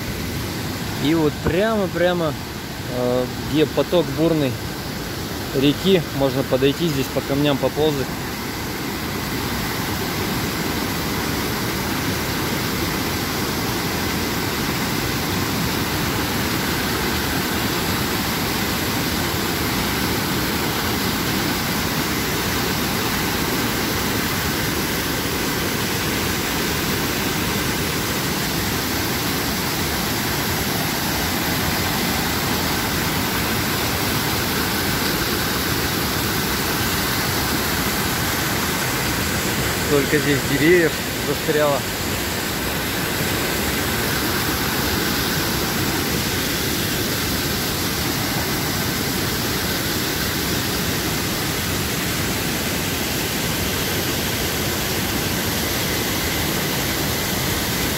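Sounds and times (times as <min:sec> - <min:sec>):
river rushing over boulders: 0:00.0 - 0:57.9.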